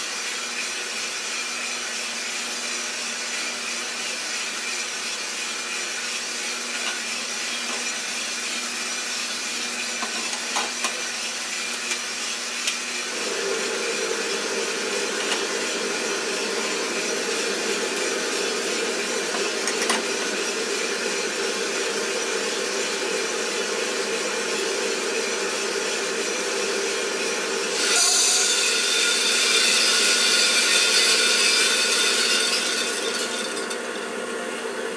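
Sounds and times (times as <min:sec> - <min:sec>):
motor and fan hum: 0:00.0 - 0:34.9.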